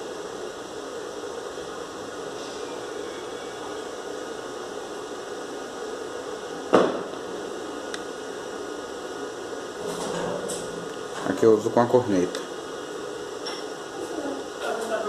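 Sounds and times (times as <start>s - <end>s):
electrical hiss and hum: 0.0s - 15.0s.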